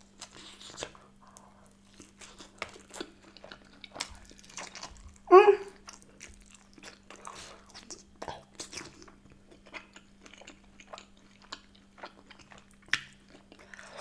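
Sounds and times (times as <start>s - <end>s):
pizza being bitten and chewed: 0.0s - 14.0s.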